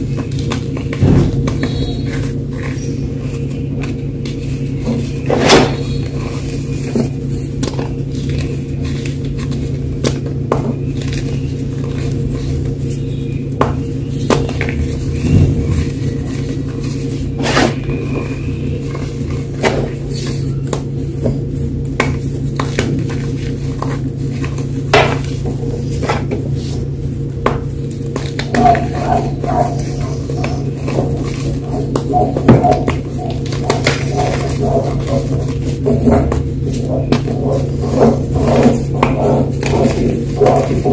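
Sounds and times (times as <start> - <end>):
chalk crunching and crumbling: 0.0 - 40.9
steady low hum: 0.0 - 40.9.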